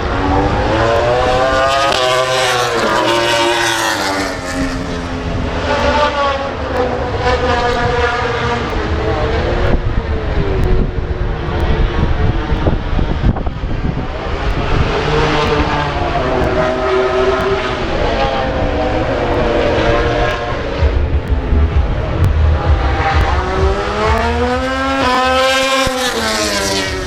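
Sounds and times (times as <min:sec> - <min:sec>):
racing motorcycles passing: 0:00.0 - 0:27.0.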